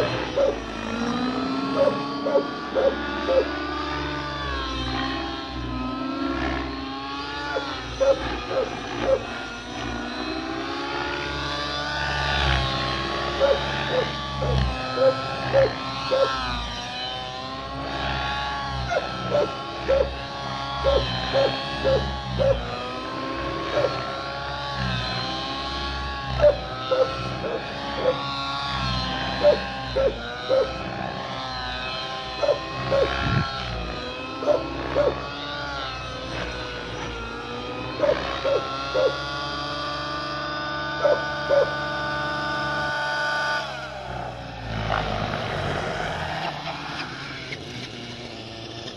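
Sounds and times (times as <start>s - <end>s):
rc helicopter engine and rotor whine: 0.0s - 48.9s.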